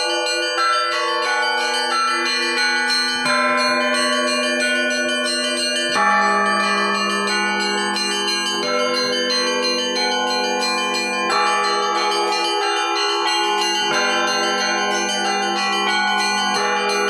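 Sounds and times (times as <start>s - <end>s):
large bell humming: 0.0s - 17.0s
small bells chiming: 0.0s - 17.0s.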